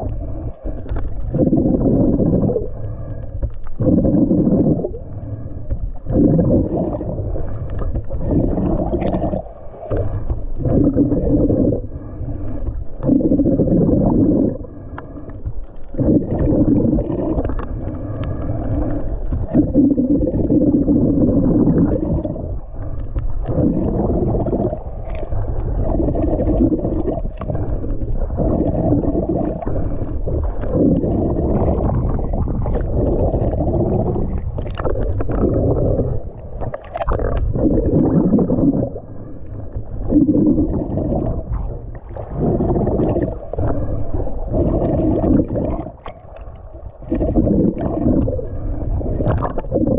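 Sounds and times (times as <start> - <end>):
underwater rumbling water: 0.0 - 49.9.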